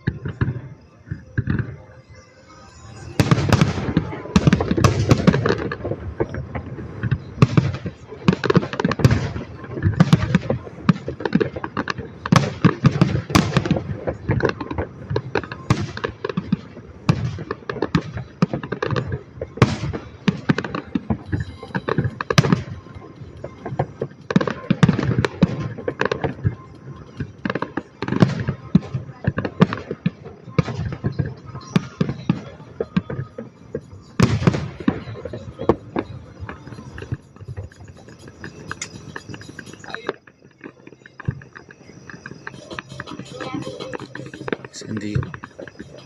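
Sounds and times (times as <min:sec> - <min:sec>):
fireworks cracking and banging: 0:02.6 - 0:46.0.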